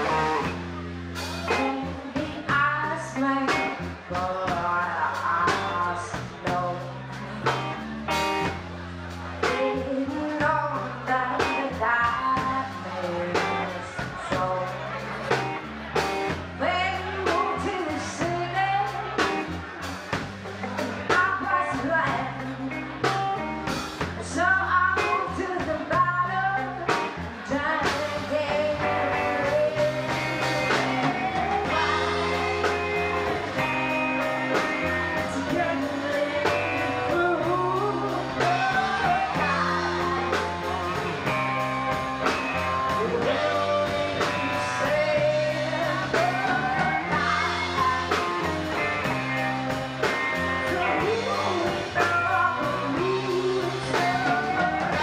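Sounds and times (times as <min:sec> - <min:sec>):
live rock band: 0:00.0 - 0:55.0
woman singing: 0:01.2 - 0:08.6, 0:09.4 - 0:15.6, 0:16.6 - 0:55.0.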